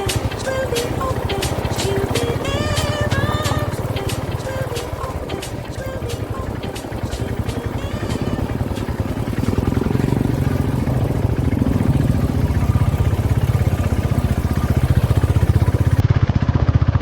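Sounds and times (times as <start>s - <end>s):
motorcycle engine thumping: 0.0s - 16.0s.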